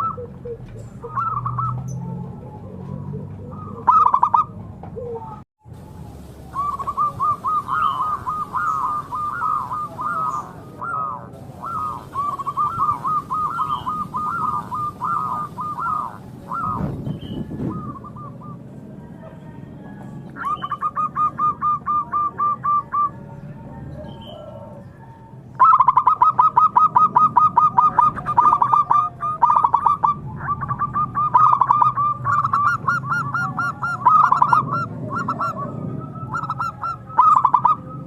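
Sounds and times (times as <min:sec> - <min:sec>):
dove cooing staccato notes: 0:00.0 - 0:05.4, 0:06.2 - 0:38.0.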